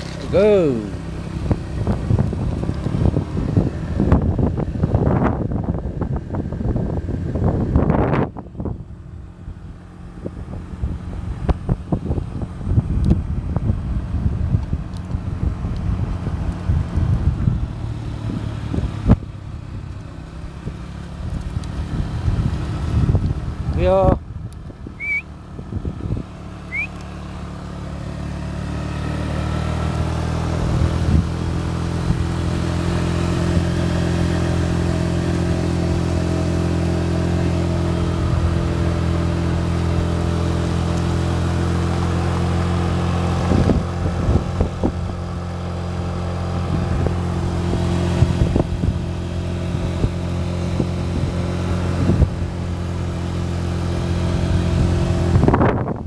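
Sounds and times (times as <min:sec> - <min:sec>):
motor engine running: 0:00.0 - 0:56.0.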